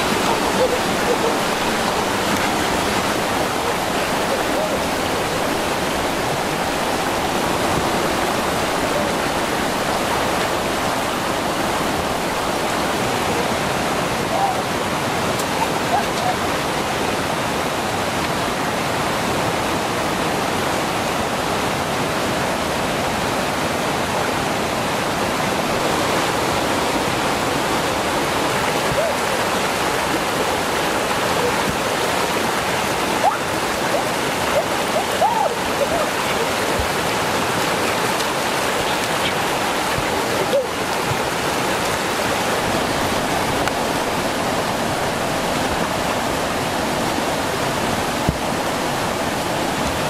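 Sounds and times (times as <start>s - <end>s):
river rushing over rocks: 0.0s - 50.0s.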